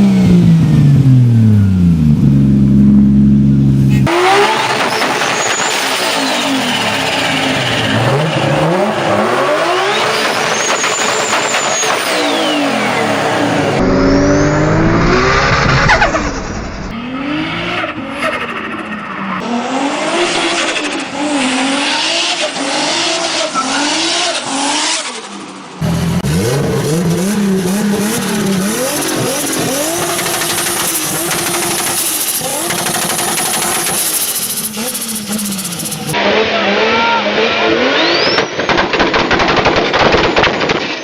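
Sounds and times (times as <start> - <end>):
turbocharged car engines revving: 0.0 - 39.6.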